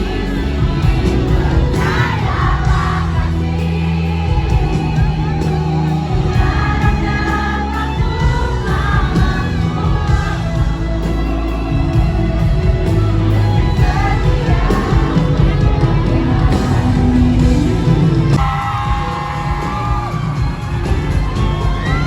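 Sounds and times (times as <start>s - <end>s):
pop song with singing: 0.0s - 22.0s
steady bass line: 0.0s - 22.0s.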